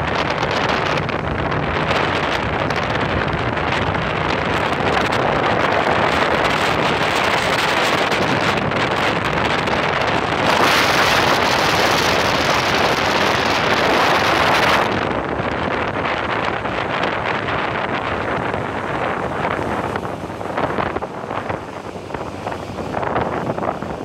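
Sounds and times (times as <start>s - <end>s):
boat running through water: 0.0s - 24.0s
wind buffeting microphone: 0.0s - 24.0s.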